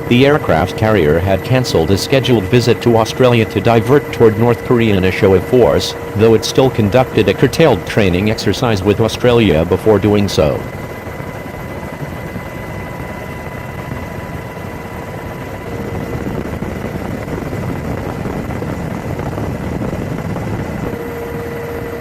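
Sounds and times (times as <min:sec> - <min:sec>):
engine running: 0:00.0 - 0:12.5, 0:13.7 - 0:22.0
high-pitched whine: 0:00.0 - 0:22.0.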